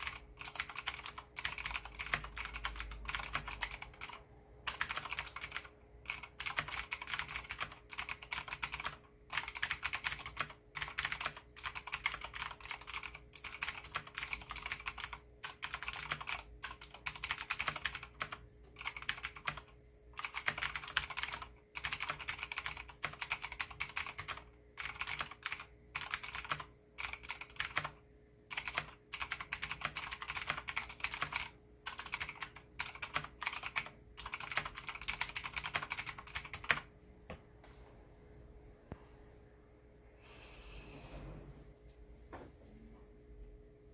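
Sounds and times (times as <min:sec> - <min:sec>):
fast typing on clicky keyboard: 0:00.0 - 0:36.9
faint steady hum: 0:00.0 - 0:43.9.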